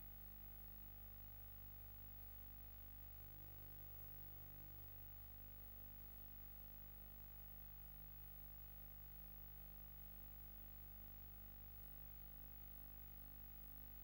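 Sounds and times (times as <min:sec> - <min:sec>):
faint low hum with hiss: 0:00.0 - 0:14.0.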